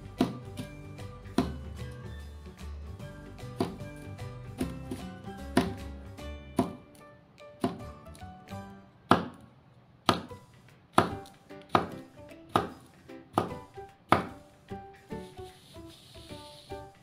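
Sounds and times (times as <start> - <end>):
background music: 0.0 - 9.5, 10.1 - 17.0.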